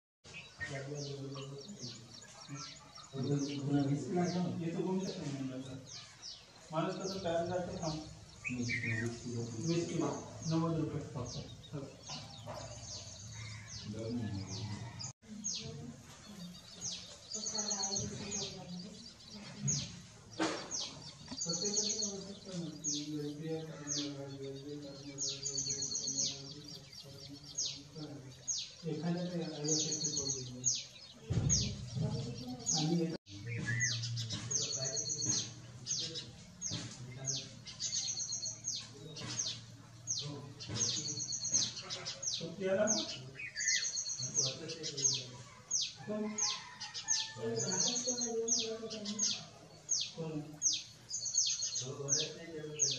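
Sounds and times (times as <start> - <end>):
birds calling downward notes: 0.2 - 52.9.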